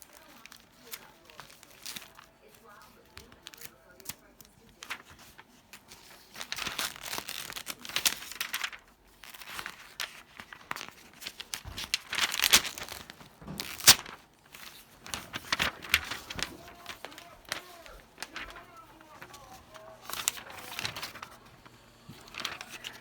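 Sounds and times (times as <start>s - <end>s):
crinkling and rustling: 0.0s - 23.0s.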